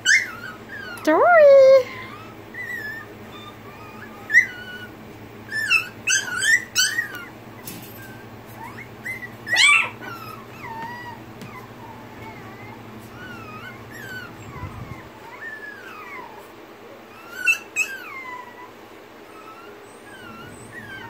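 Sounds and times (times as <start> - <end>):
puppy whining and yipping: 0.0 - 21.0.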